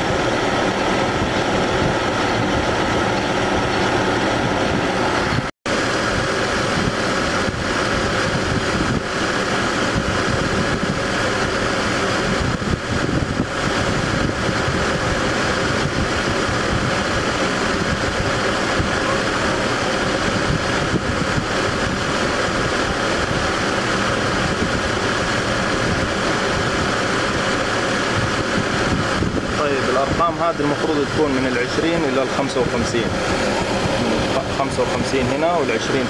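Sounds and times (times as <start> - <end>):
air conditioning compressor running: 0.0 - 36.0.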